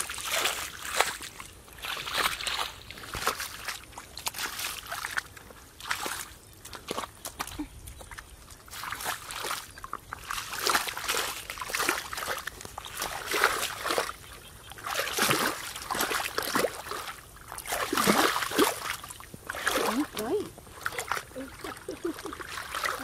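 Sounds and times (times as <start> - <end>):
feet splashing through muddy water: 0.0 - 23.0.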